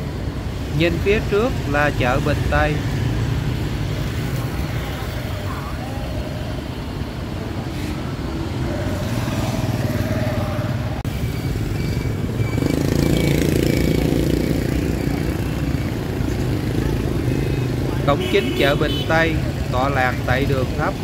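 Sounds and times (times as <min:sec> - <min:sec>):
motorbike engines running: 0:00.0 - 0:21.0.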